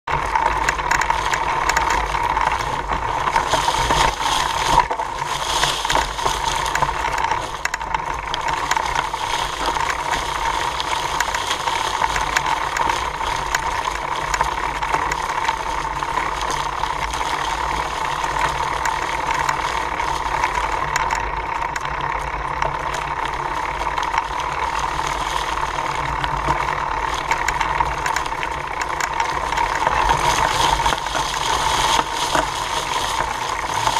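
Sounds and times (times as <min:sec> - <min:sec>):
bike tyres rolling through leaves: 0:00.0 - 0:33.9
constant hum-like tone: 0:00.1 - 0:33.9.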